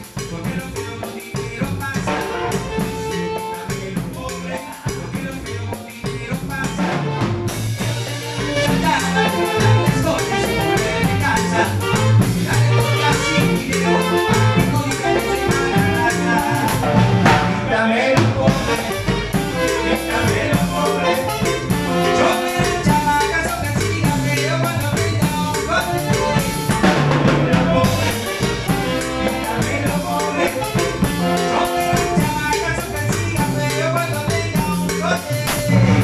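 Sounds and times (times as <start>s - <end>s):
congas: 0.0s - 36.0s
drum kit: 0.0s - 36.0s
electric bass: 0.0s - 36.0s.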